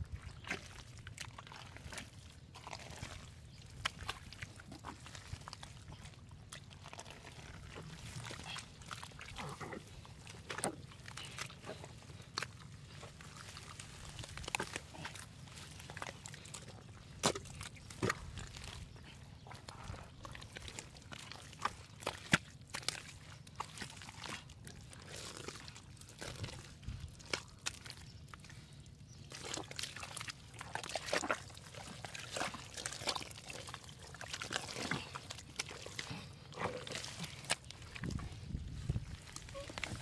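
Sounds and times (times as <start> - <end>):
digging through wet mud: 0.0 - 40.0.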